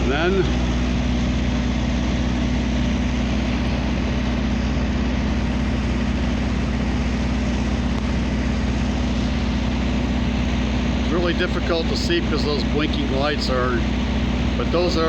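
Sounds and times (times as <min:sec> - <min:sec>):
heavy engine idling: 0:00.0 - 0:15.0.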